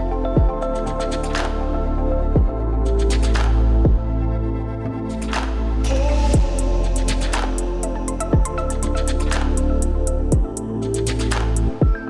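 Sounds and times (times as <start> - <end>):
deep bass notes dropping: 0.0 - 5.0, 5.8 - 11.8
electronic music with steady beat: 0.0 - 12.0.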